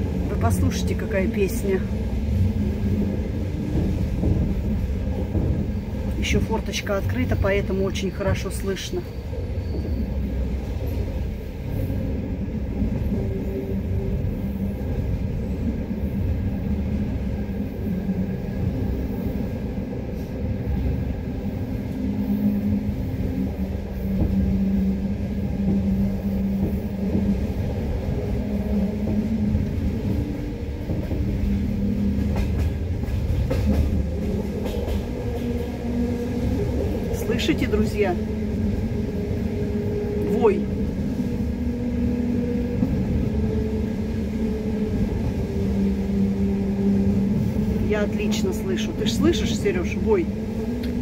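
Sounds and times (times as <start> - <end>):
train carriage rumbling: 0.0 - 51.0.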